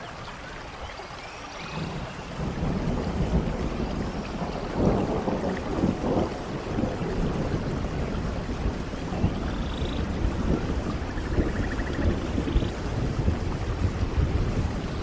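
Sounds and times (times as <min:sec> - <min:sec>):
steady rain: 0:00.0 - 0:15.0
thunder rumbling: 0:01.8 - 0:15.0.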